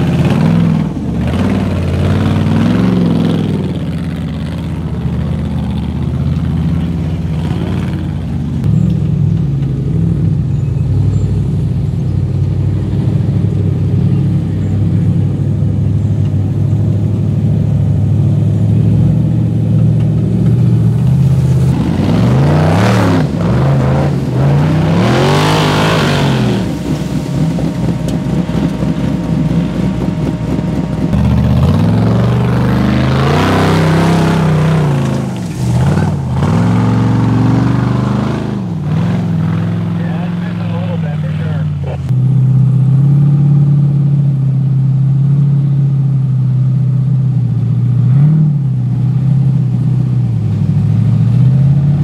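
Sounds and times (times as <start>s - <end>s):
engine revving under load: 0.0s - 44.3s.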